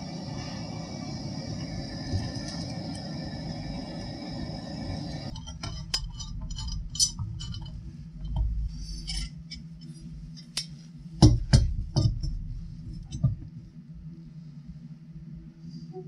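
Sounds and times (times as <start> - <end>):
gas torch hissing: 0.0 - 13.4.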